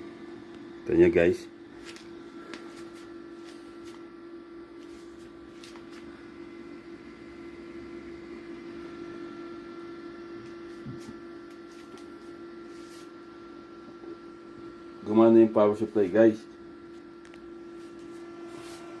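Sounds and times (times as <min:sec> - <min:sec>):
computer fans humming: 0:00.0 - 0:19.0.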